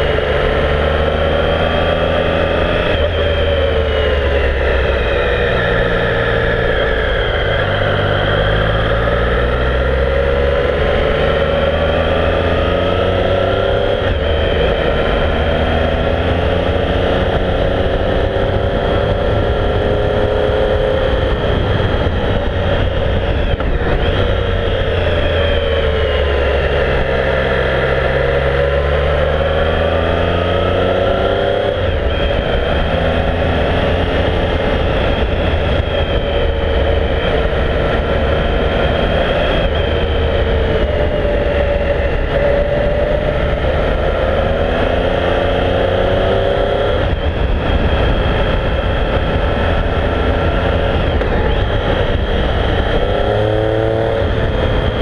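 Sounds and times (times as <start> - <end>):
motorcycle engine revving: 0.0 - 55.0
wind rumble on microphone: 0.0 - 55.0.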